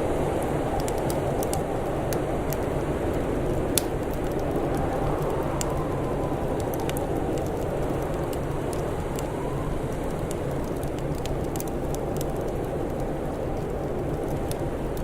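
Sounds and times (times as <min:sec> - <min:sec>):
blizzard wind rushing: 0:00.0 - 0:15.0
wind whistling: 0:00.0 - 0:15.0
wood fire crackling and popping: 0:00.0 - 0:15.0.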